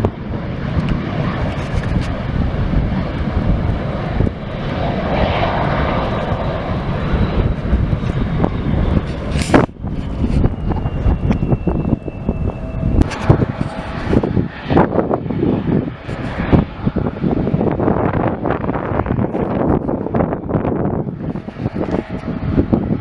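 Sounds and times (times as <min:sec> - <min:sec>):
airliner engines rumbling: 0:00.0 - 0:23.0
steady high whine: 0:00.0 - 0:23.0.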